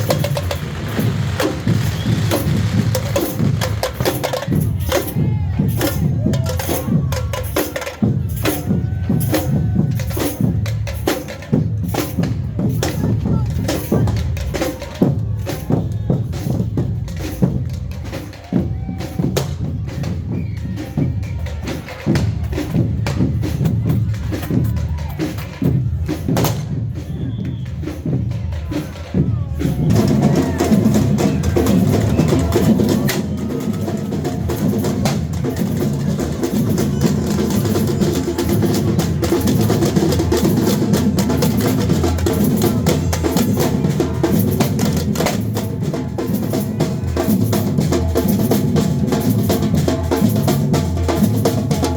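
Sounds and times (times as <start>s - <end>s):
band with drums and sustained notes: 0.0s - 51.9s
marching band drums banging: 0.0s - 51.9s.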